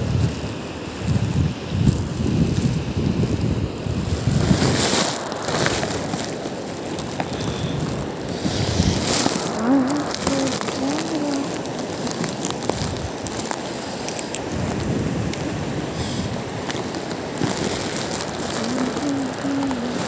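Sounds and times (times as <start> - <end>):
small crackles: 0.0 - 20.0
surf: 0.0 - 20.0
wind: 0.0 - 20.0.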